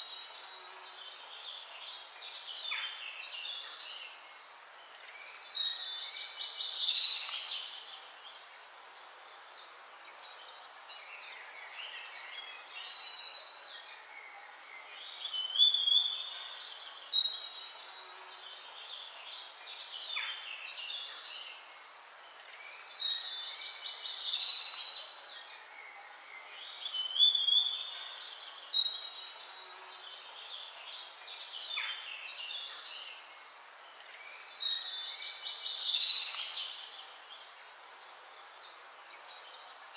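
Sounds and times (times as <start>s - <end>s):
birds chirping and warbling: 0.0s - 39.9s
steady hiss: 0.0s - 39.9s.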